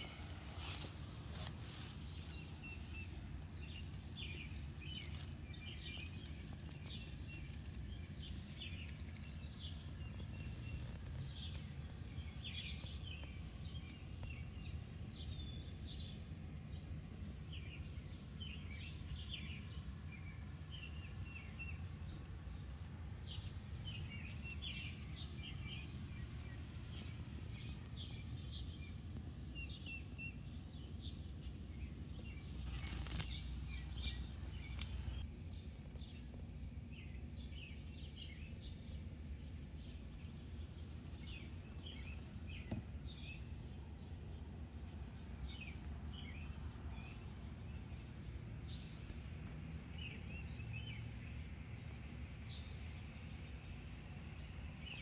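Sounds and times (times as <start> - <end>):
low background rumble: 0.0 - 55.0
small birds chirping: 0.0 - 55.0.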